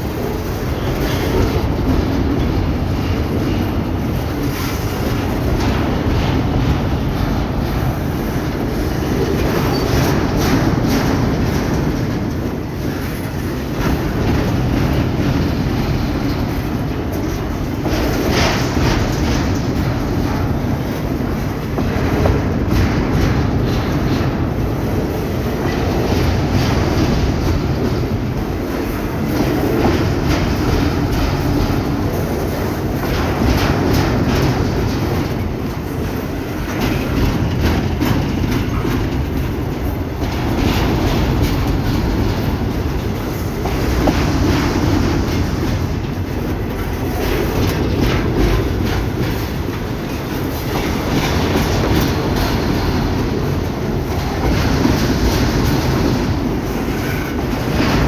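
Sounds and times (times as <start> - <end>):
low rumble of train: 0.0 - 58.0
train wheels clacking over rail joints: 0.0 - 58.0.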